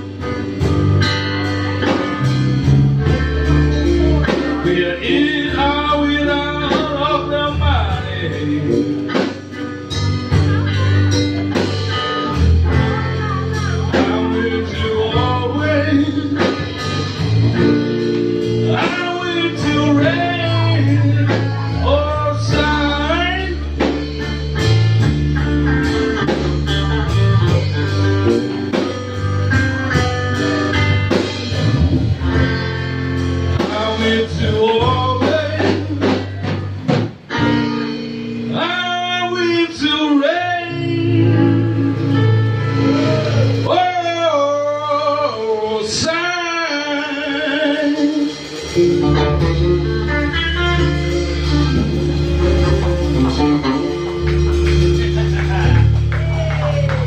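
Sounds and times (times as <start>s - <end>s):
bass: 0.0s - 57.0s
drums: 0.0s - 57.0s
electric guitar: 0.0s - 57.0s
person singing: 1.5s - 29.2s, 33.5s - 57.0s.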